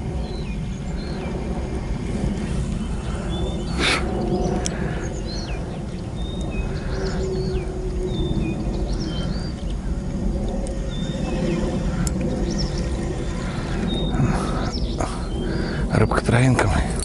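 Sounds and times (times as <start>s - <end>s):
loud rush of noise: 0.0s - 17.0s
small birds chirping and whistling: 0.0s - 17.0s
steady low rumble: 0.0s - 17.0s.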